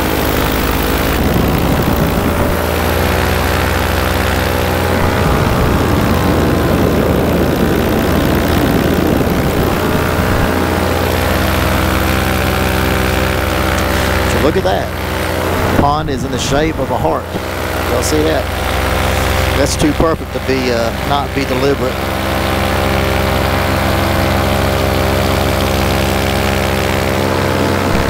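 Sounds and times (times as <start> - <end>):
paramotor engine and propeller: 0.0 - 28.0.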